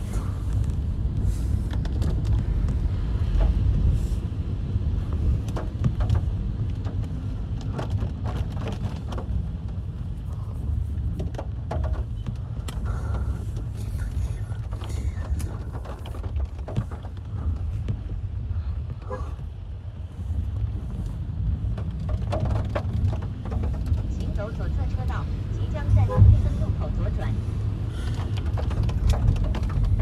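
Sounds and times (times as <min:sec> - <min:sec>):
car road noise rumble: 0:00.0 - 0:30.0.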